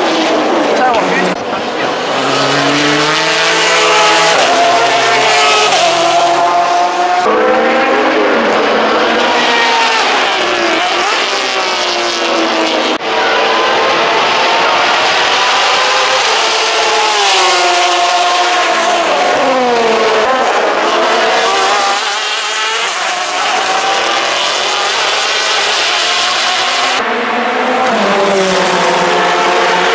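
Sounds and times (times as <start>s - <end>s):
race car engines at high revs: 0.0s - 29.9s.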